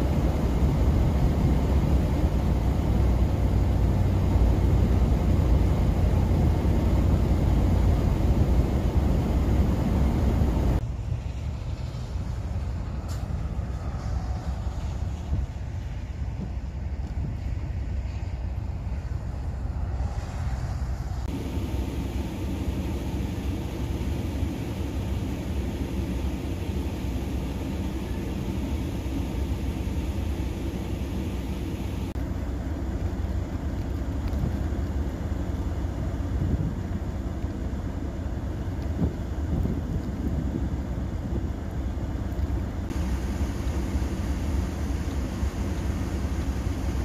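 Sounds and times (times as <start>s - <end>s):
wind buffeting microphone: 0.0s - 30.6s, 35.6s - 47.0s.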